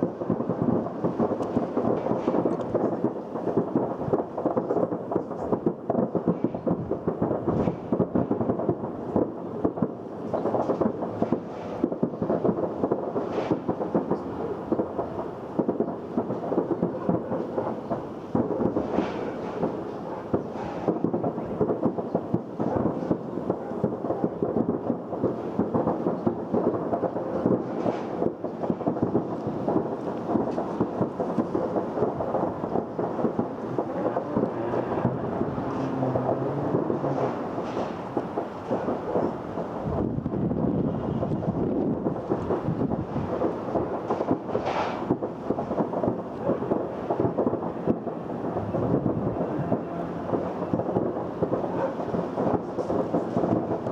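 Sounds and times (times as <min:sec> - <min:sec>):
explosion: 0:00.0 - 0:53.9
fireworks crackling and banging: 0:00.0 - 0:53.9.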